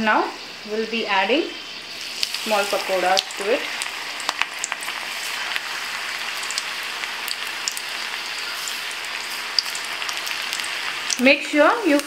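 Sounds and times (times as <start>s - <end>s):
batter sizzling in hot oil: 0.4s - 12.0s
crackles and pops of frying: 1.0s - 12.0s.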